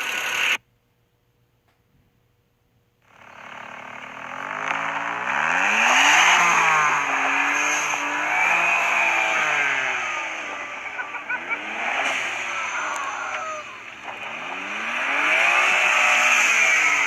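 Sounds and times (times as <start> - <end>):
turbocharged car engine revving: 0.0 - 0.6, 3.1 - 17.0.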